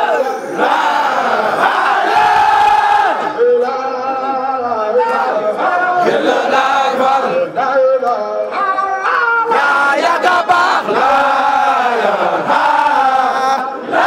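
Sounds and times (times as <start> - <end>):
crowd of men singing and chanting: 0.0 - 14.0.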